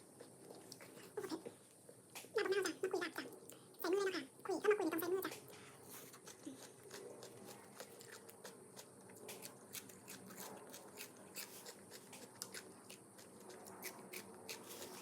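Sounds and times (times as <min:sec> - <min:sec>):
faint chewing and mouth sounds: 0:00.0 - 0:02.4, 0:03.1 - 0:15.0.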